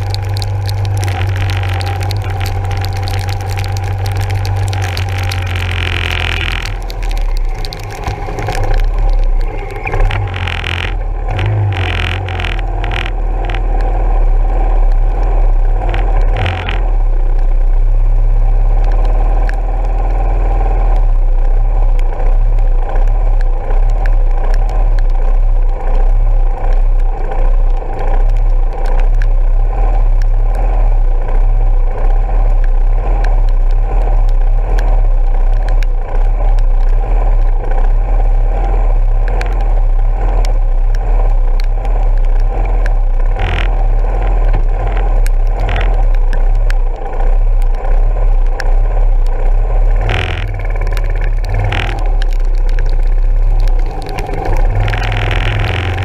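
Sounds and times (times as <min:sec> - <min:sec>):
sharp ticks: 0:00.0 - 0:17.7, 0:18.6 - 0:56.0.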